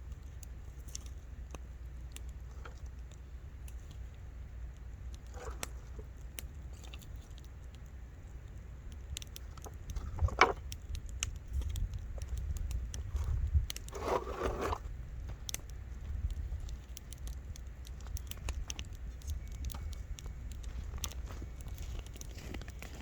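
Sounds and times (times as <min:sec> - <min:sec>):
campfire crackling: 0:00.0 - 0:23.0
low steady rumble: 0:00.0 - 0:23.0.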